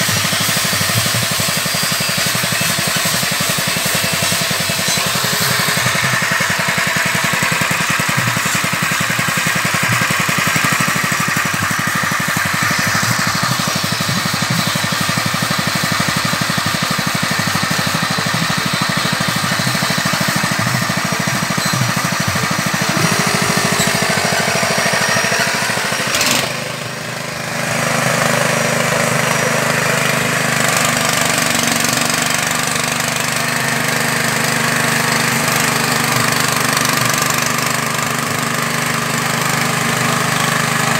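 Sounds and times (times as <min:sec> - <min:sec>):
small engine chugging: 0:00.0 - 0:40.9.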